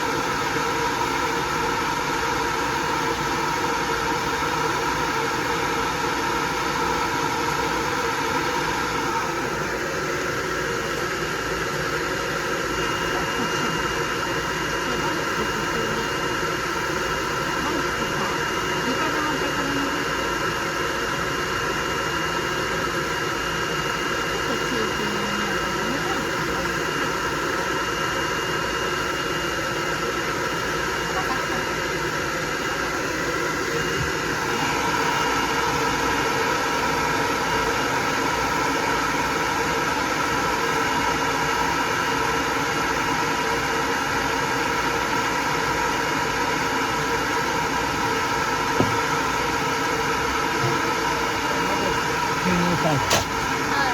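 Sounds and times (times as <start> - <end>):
hair dryer blowing: 0.0 - 53.9.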